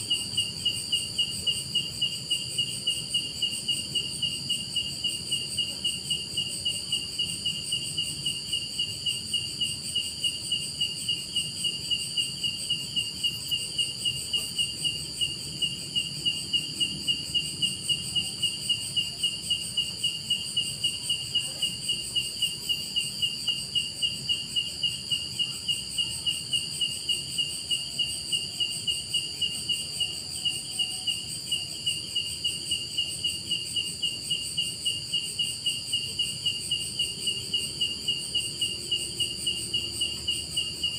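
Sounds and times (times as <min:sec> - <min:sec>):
continuous insect trill: 0:00.0 - 0:40.9
cricket-like chirp: 0:00.0 - 0:40.9.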